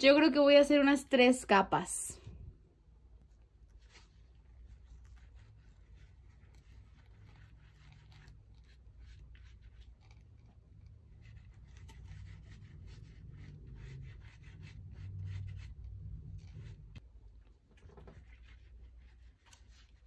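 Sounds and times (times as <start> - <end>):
sponge rubbing and dabbing: 3.0 - 20.0.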